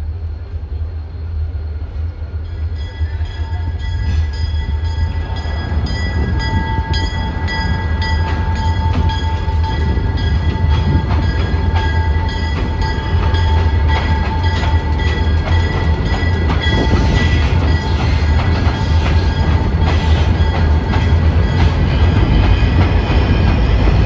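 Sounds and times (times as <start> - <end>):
diesel locomotive engine rumbling: 0.0 - 24.0.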